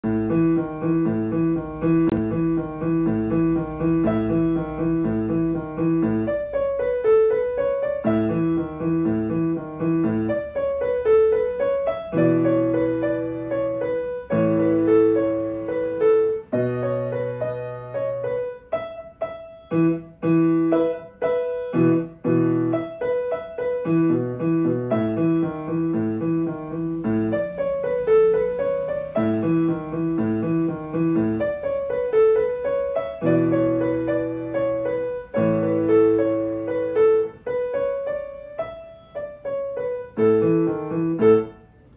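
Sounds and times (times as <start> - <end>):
solo piano playing: 0.0 - 41.9.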